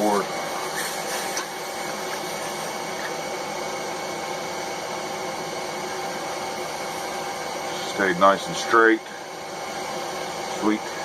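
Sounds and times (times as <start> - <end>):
forge rushing steadily: 0.0 - 11.0.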